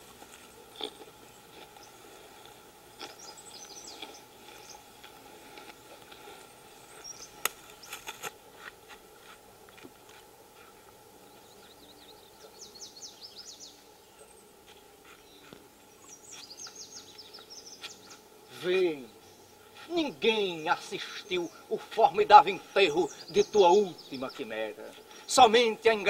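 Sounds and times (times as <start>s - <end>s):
birds chirping: 0.0s - 26.0s
faint outdoor hum: 0.0s - 26.0s.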